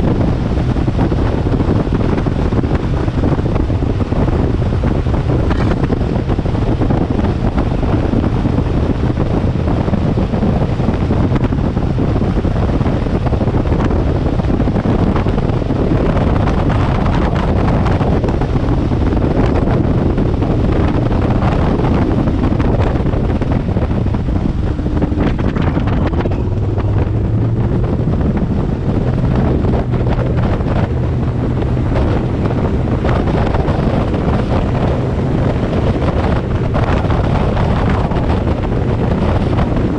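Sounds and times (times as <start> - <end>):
boat hull on water: 0.0 - 39.9
outboard engine droning: 0.0 - 39.9
wind rushing over microphone: 0.0 - 39.9.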